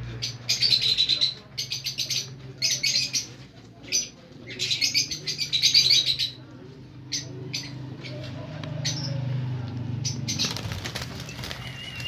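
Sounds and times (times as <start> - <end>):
parrots chirping: 0.2 - 6.4, 7.0 - 9.3, 10.0 - 12.0.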